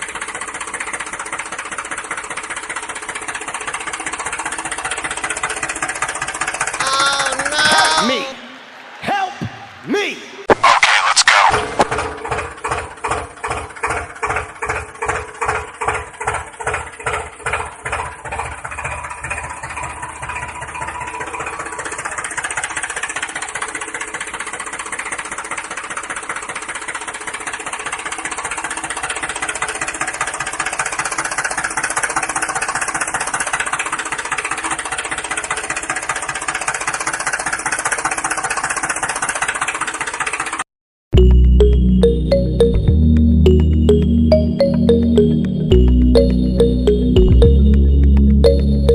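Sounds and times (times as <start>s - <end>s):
tractor engine chugging: 0.0s - 8.3s, 11.3s - 40.6s, 41.2s - 48.9s.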